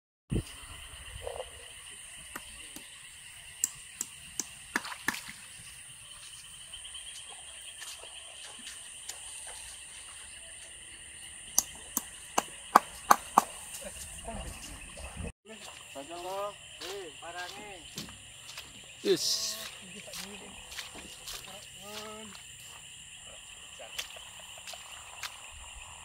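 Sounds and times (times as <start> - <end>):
insects shrilling: 0.3 - 25.9.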